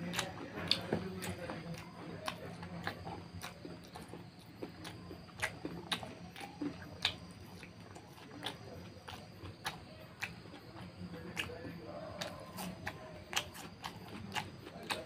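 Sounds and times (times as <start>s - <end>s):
person chewing food: 0.0s - 15.0s
wet mouth clicks and smacks: 0.0s - 15.0s.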